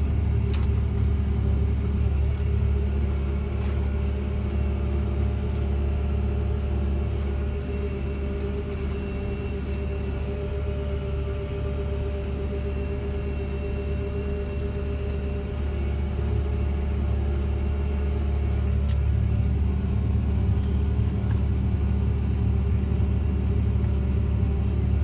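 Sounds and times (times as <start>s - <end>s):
tractor diesel engine rumbling: 0.0s - 25.0s.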